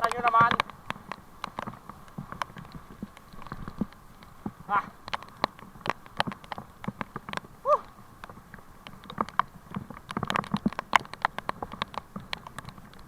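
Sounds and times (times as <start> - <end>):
raindrops tapping: 0.0 - 13.0.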